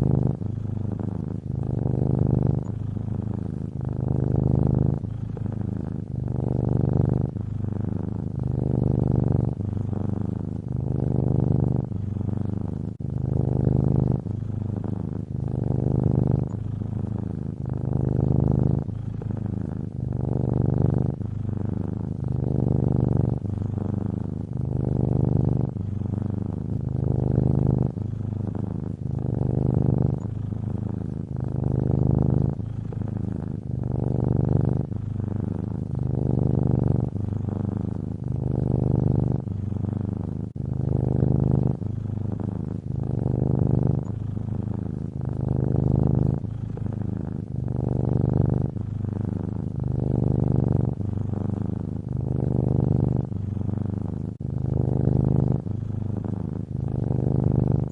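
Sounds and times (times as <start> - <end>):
cat purring: 0.0 - 57.9.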